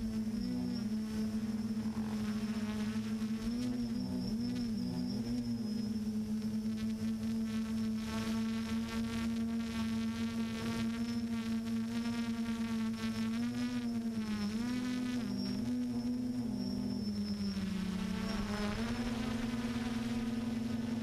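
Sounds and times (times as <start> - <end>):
drone propellers buzzing: 0.0 - 7.6, 8.5 - 21.0.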